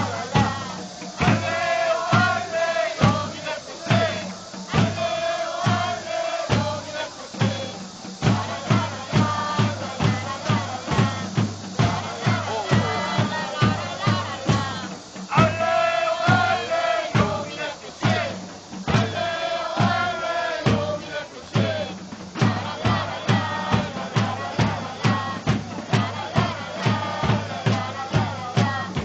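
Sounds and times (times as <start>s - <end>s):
steady drum beat: 0.0s - 29.0s
supporters singing a chant: 0.0s - 29.0s.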